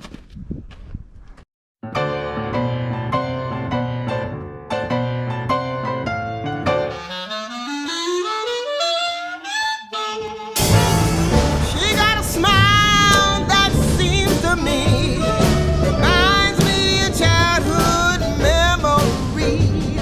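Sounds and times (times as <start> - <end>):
instrumental music: 1.8 - 20.0.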